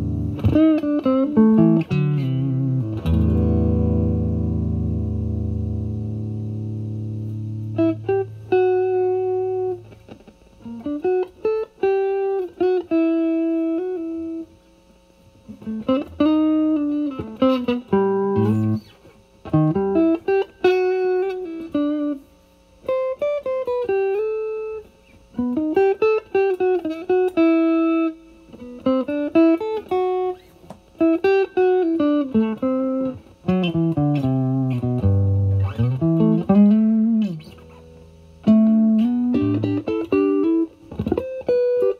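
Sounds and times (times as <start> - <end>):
overdriven electric guitar blues lead: 0.0 - 14.5, 15.5 - 22.2, 22.8 - 41.9.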